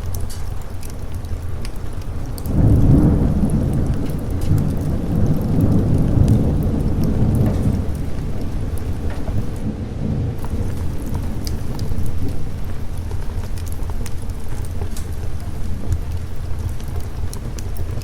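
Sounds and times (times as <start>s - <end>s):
rain pattering: 0.0s - 18.0s
rolling thunder: 2.1s - 18.0s.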